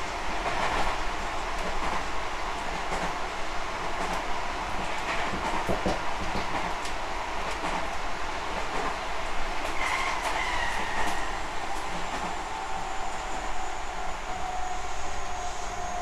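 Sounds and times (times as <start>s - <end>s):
train rolling rumble: 0.0s - 16.0s.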